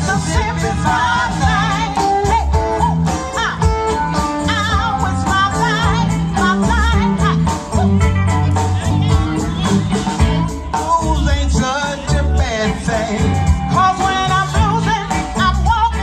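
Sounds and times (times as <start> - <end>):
live blues band playing: 0.0 - 16.0
person singing lead vocal: 0.0 - 16.0.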